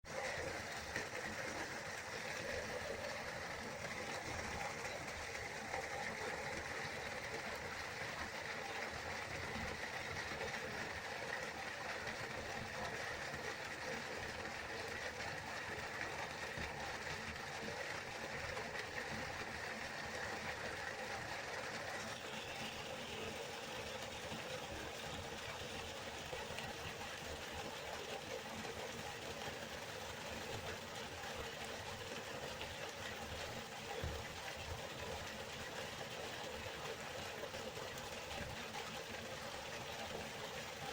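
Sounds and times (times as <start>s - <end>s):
river water flowing: 0.1s - 40.9s.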